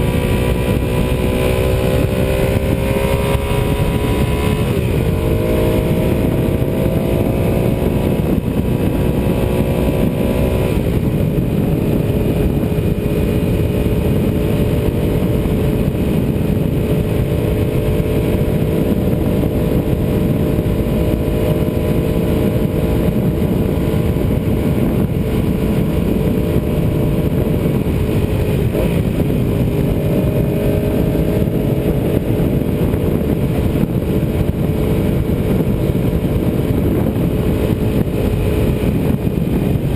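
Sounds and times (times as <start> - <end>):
heavy rushing noise: 0.0 - 39.9
motorcycle engine running: 0.0 - 39.9.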